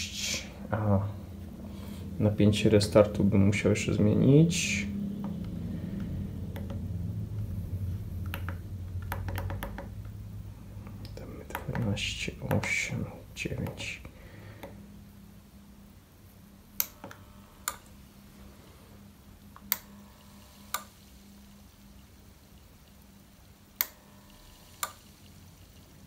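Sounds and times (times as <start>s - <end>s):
low transformer hum: 0.0s - 26.0s.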